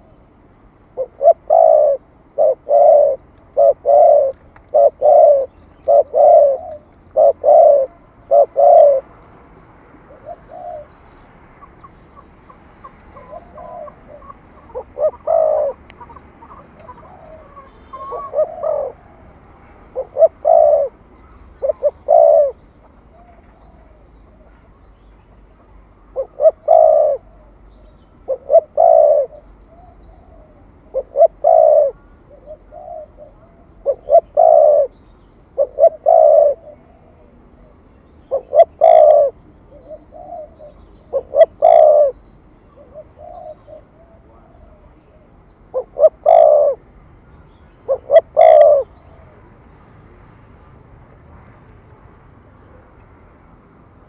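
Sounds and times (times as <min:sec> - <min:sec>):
dove cooing: 0:00.9 - 0:09.1, 0:10.0 - 0:24.8, 0:25.5 - 0:27.6, 0:28.2 - 0:49.4.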